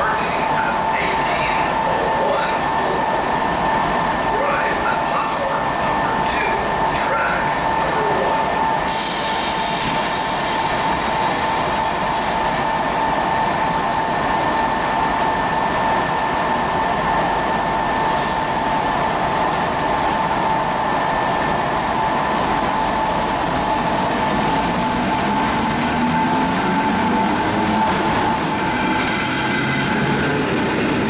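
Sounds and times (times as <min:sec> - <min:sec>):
train machinery whine: 0:00.0 - 0:31.0.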